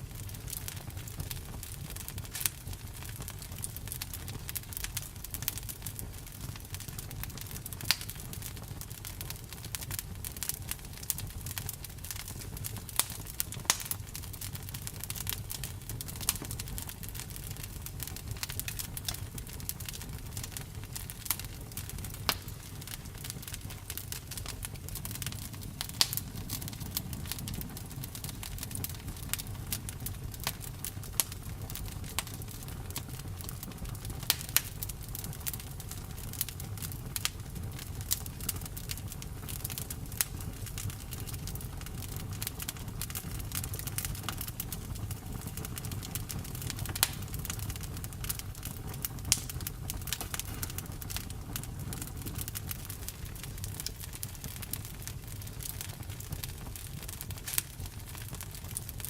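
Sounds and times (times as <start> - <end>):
bonfire crackling and popping: 0.0 - 59.0
low rumble of flames: 0.0 - 59.0.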